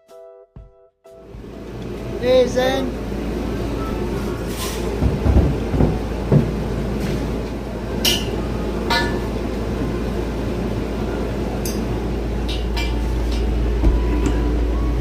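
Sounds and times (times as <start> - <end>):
low hum: 2.9 - 15.0.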